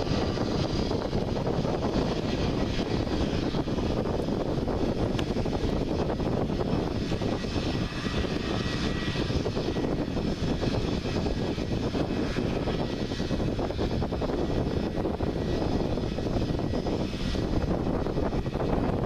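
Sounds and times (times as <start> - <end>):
faint high whine: 0.0 - 19.0
jet engines rumbling: 0.0 - 19.0.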